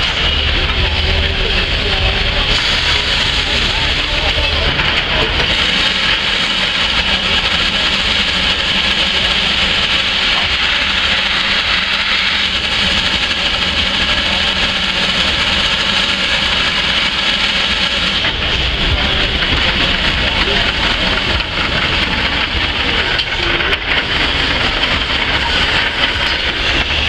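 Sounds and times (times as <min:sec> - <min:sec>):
low engine rumble: 0:00.0 - 0:27.0
steam hissing: 0:00.0 - 0:27.0.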